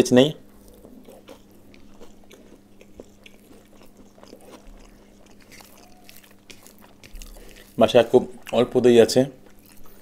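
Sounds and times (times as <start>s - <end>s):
steady low hum: 0.0s - 10.0s
wet chewing clicks: 0.4s - 10.0s.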